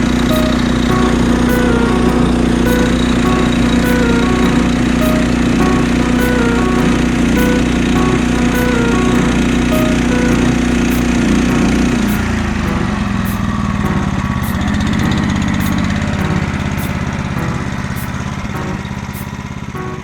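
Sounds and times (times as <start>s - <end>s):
snowblower engine running: 0.0s - 19.6s
faint background music: 0.0s - 20.0s.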